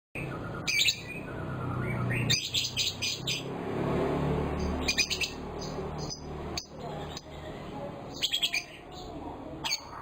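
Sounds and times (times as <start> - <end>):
bird chirping: 0.2 - 3.8, 4.4 - 10.0.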